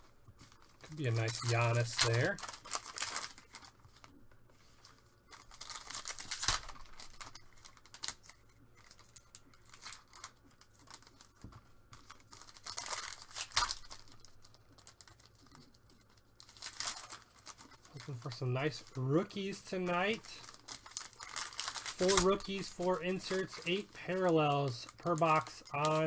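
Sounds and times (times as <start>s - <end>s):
plastic wrapping crinkling: 0.0s - 26.0s.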